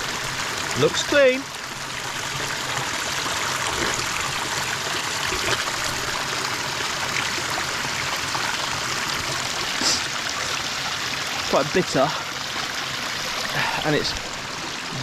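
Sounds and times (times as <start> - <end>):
stream water over stones: 0.0 - 15.0.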